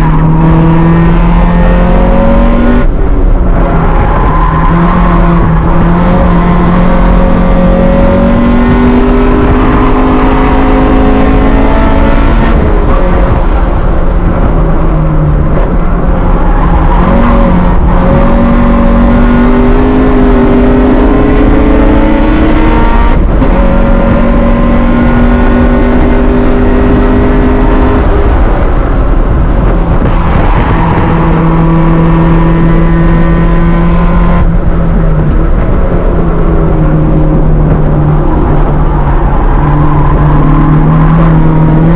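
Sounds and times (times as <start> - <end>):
car engine running hard: 0.0 - 41.9.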